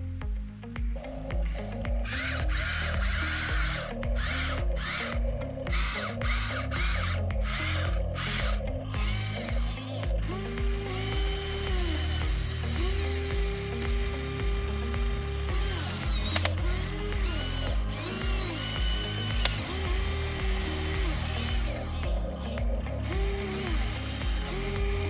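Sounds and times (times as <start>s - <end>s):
background music with bassline: 0.0s - 25.0s
electric motors whirring: 1.0s - 25.0s.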